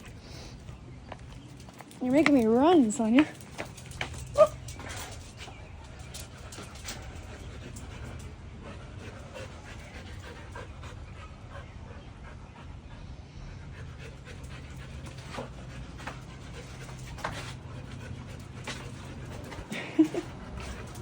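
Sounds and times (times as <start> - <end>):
dog panting: 3.3 - 21.0.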